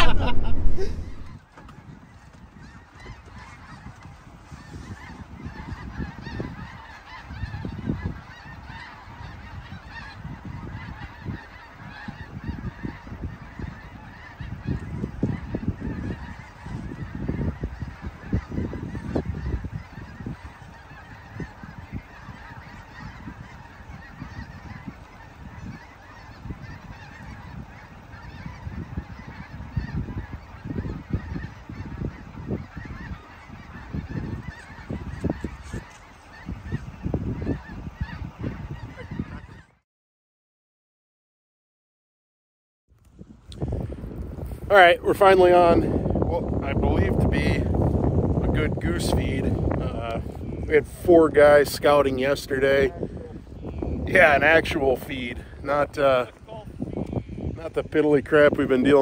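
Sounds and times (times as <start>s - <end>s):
geese honking: 0.0s - 39.8s, 43.5s - 59.0s
wind rumbling on microphone: 0.0s - 39.8s, 42.9s - 59.0s.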